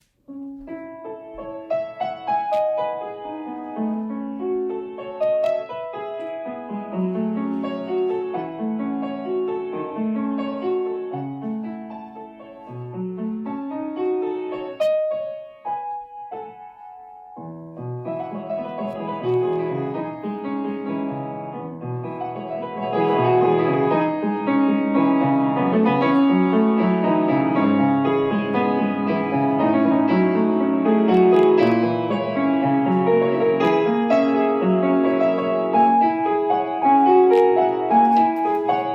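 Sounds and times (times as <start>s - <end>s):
solo piano music: 0.0s - 38.9s.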